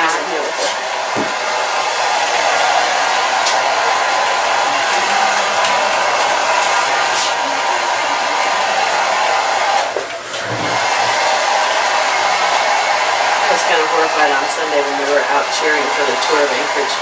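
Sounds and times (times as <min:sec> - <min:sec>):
hair dryer blowing: 0:00.0 - 0:17.0.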